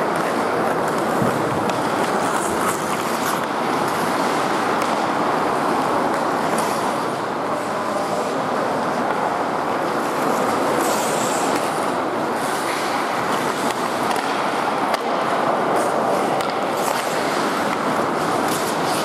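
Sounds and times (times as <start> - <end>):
arena noise: 0.0 - 19.0
hockey sticks and puck clacking: 0.0 - 19.0
skates scraping on ice: 0.0 - 19.0.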